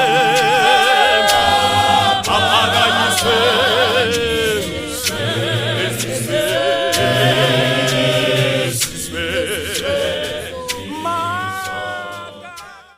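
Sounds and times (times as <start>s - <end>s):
choir singing a hymn: 0.0s - 12.9s.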